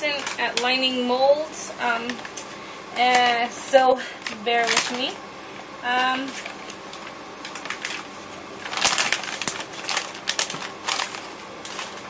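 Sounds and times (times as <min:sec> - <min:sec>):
plastic liner crinkling: 0:00.0 - 0:01.1, 0:01.9 - 0:03.6, 0:04.2 - 0:05.2, 0:05.9 - 0:12.0.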